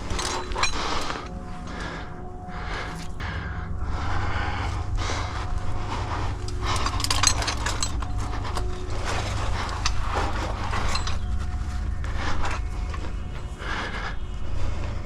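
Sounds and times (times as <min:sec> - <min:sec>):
climbing gear clinking: 0:00.0 - 0:15.0
steady low rumble: 0:00.0 - 0:15.0.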